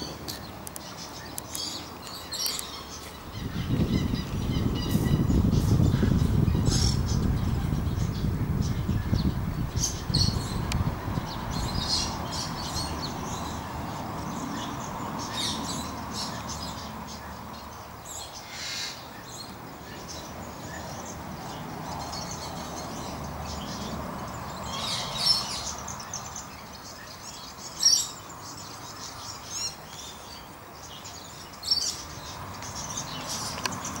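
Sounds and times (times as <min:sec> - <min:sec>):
birds chirping: 0:00.0 - 0:34.0
outdoor background hiss: 0:00.0 - 0:34.0.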